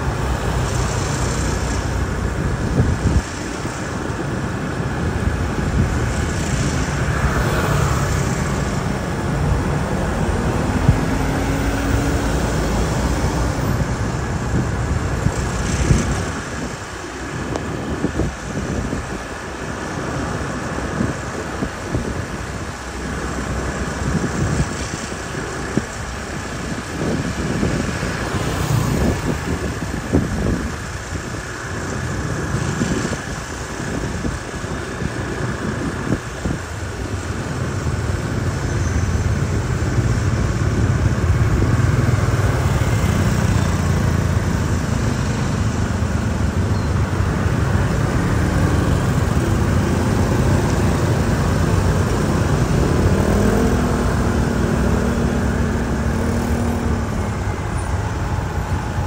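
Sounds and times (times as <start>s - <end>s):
cars and motorbikes passing: 0.0s - 59.0s.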